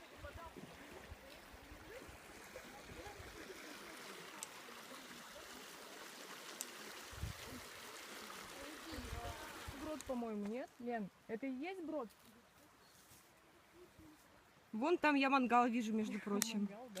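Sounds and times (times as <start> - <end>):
shallow stream flowing: 0.0 - 17.0.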